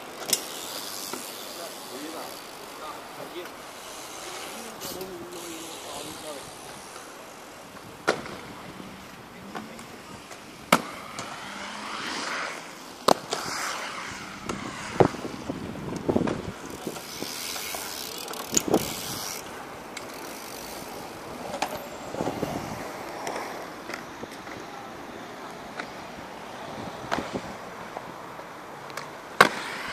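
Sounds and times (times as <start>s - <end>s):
bikes knocking on concrete: 0.0s - 12.0s, 14.2s - 26.2s, 27.0s - 29.9s
bike tyres rolling on concrete: 0.0s - 29.9s.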